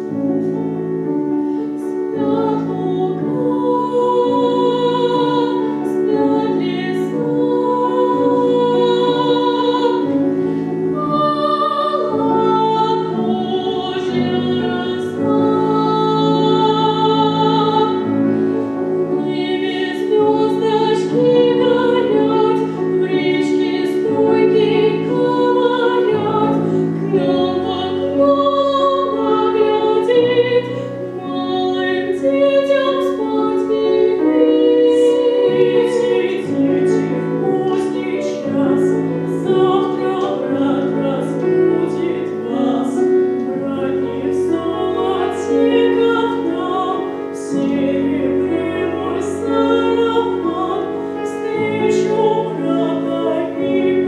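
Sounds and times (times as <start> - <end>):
piano accompaniment: 0.0 - 54.0
women singing classical duet: 0.0 - 54.0.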